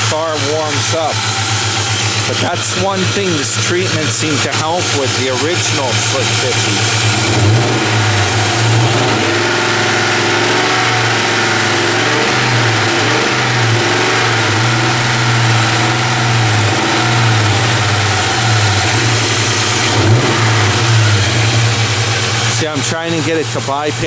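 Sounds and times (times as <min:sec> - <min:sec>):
car engine idling: 0:00.0 - 0:24.0
light slapping engine noise: 0:00.0 - 0:24.0.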